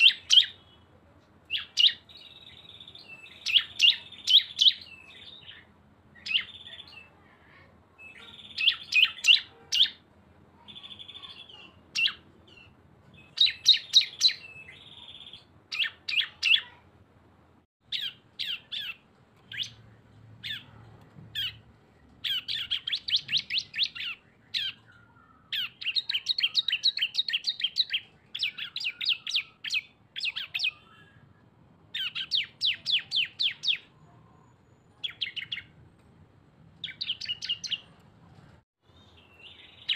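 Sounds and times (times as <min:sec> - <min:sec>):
songbirds chattering song: 0:00.0 - 0:17.0, 0:17.8 - 0:35.8, 0:36.8 - 0:38.1, 0:38.8 - 0:39.9.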